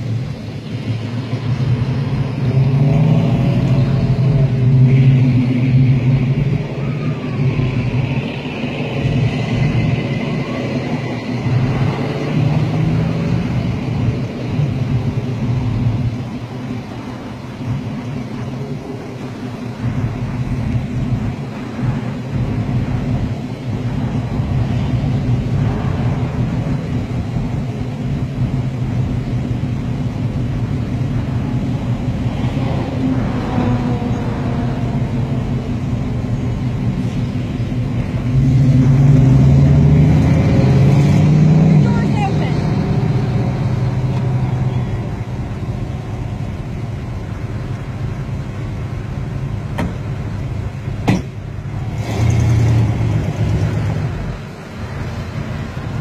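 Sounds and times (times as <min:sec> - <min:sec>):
car engines idling: 0:00.0 - 0:56.0
cars pulling past: 0:00.0 - 0:56.0.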